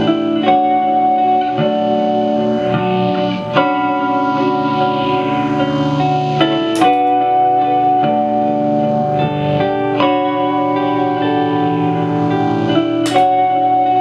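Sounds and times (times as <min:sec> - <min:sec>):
ambient electric guitar looping: 0:00.0 - 0:14.0.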